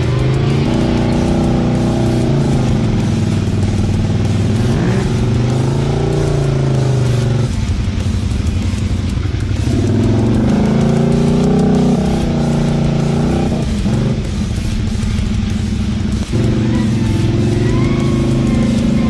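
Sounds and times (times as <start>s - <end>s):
atv engines revving: 0.0s - 19.0s.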